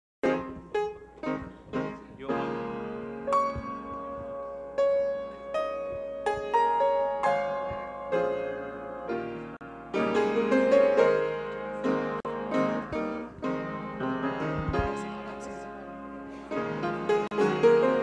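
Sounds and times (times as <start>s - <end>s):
piano playing chords: 0.2s - 18.0s.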